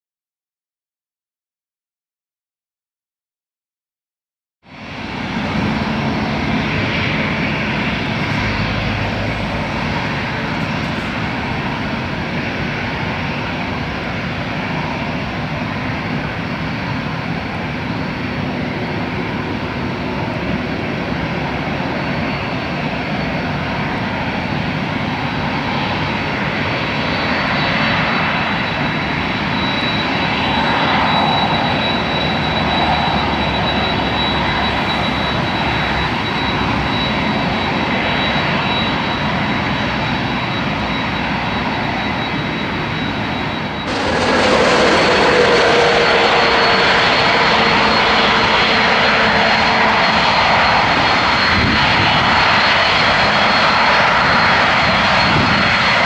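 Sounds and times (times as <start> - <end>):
jet engine rumble and rush: 4.7 - 56.0
thin high engine whine: 4.8 - 56.0.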